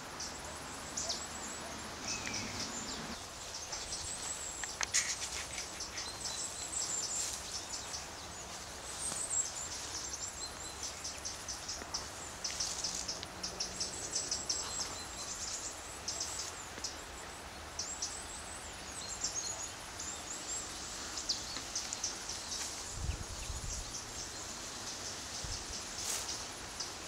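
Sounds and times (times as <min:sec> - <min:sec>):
outdoor hiss: 0:00.0 - 0:27.0.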